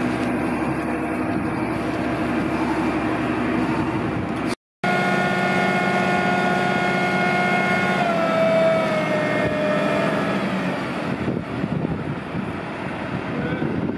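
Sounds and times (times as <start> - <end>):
hydraulic whine: 0.0 - 13.9
truck engine running: 0.0 - 13.9.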